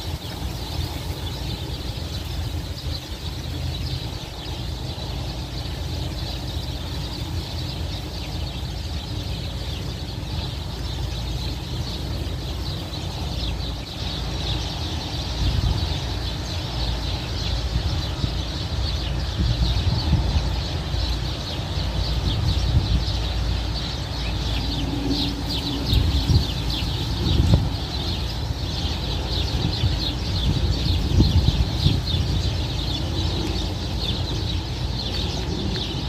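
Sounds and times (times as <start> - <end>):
small birds chirping: 0.0 - 36.0
wind buffeting microphone: 0.0 - 36.0.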